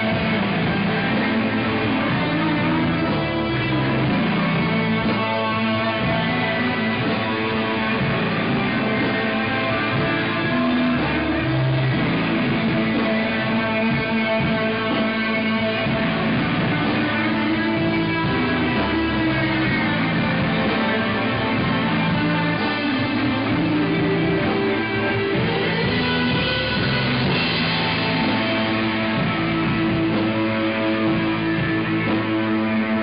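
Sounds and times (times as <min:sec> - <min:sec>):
electric guitar: 0:00.0 - 0:33.0
live band playing: 0:00.0 - 0:33.0.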